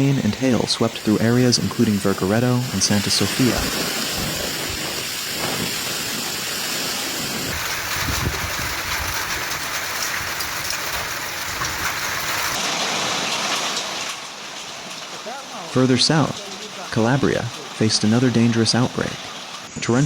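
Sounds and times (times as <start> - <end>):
heavy rain pouring: 0.0 - 19.7.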